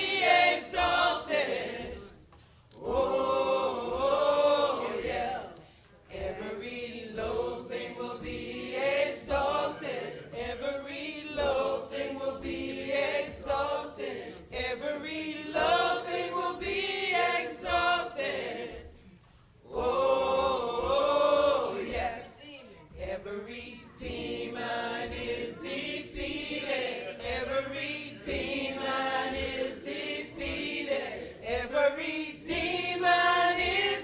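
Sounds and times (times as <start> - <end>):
gospel choir singing: 0.0 - 34.0.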